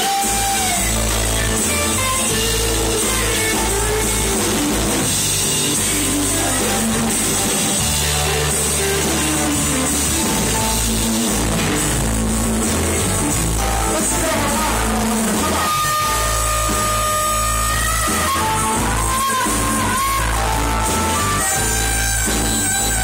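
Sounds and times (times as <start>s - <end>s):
live blues-rock band: 0.0s - 23.0s.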